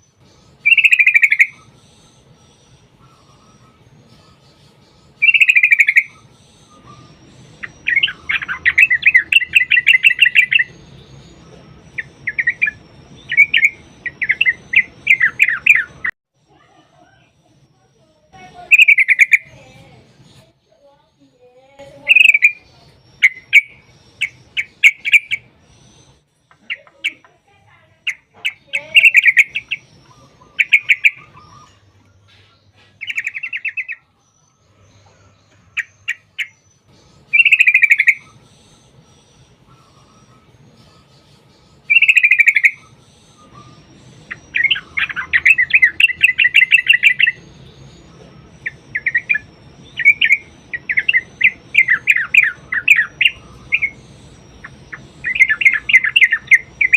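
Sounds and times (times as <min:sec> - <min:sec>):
bulbul singing: 0:00.0 - 0:56.9.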